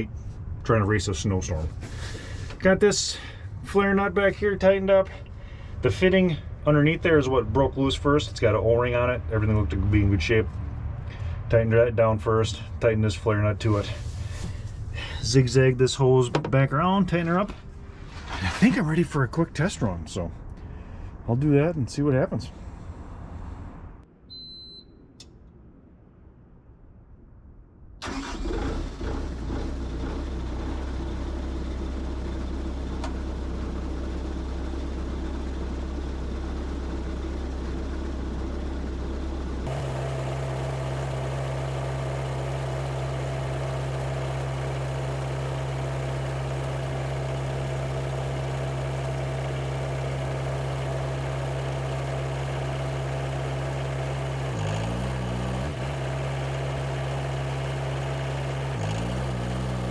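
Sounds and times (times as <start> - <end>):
diesel engine idling and revving: 0.0 - 16.3, 28.0 - 59.9.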